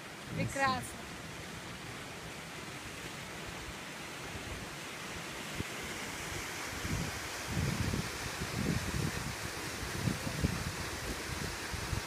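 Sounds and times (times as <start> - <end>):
waterfall rushing hiss: 0.0 - 12.0.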